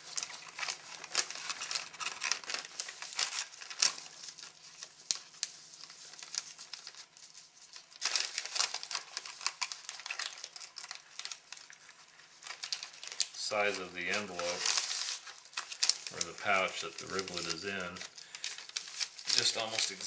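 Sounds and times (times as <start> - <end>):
foil pouch rustling: 0.0 - 20.0
plastic bag crinkling: 0.0 - 20.0.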